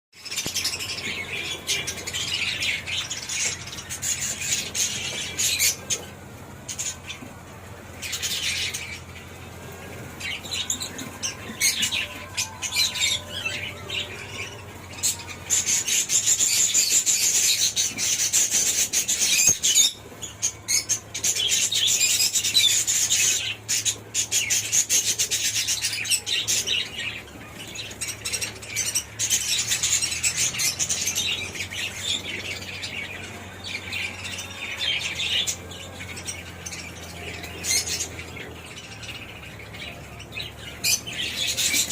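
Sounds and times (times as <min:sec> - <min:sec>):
parrots chattering and chirping: 0:00.2 - 0:41.9.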